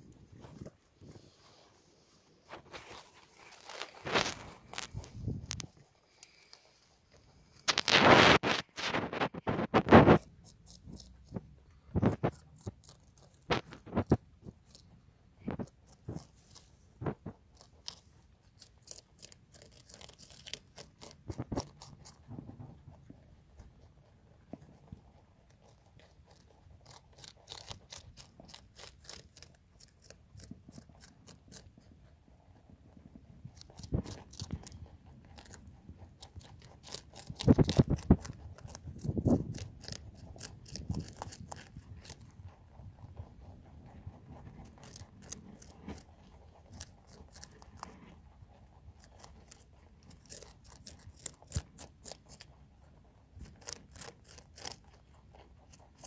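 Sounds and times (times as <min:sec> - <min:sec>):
rabbits chewing crunchy leaves: 0:00.0 - 0:56.0.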